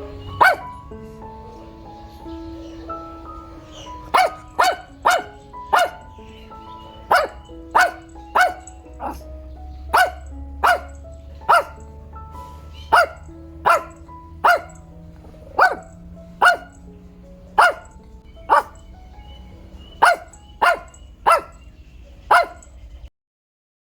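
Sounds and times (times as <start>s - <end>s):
background music with held notes: 0.0s - 23.1s
dog barking: 0.2s - 0.9s, 2.9s - 19.0s, 19.6s - 22.9s.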